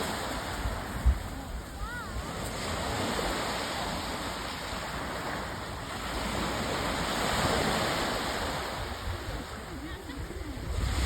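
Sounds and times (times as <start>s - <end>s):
sea waves washing in: 0.0s - 11.0s.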